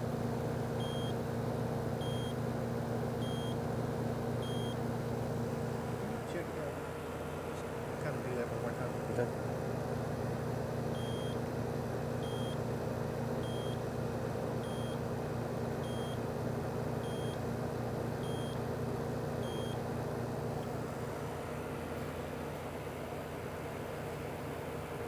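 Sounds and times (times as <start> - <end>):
air conditioning unit hum: 0.0 - 25.0.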